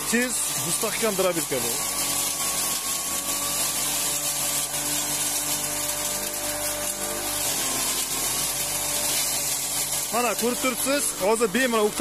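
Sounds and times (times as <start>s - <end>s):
fodder crusher motor whine: 0.0s - 12.0s
hay shredding hiss: 0.0s - 12.0s.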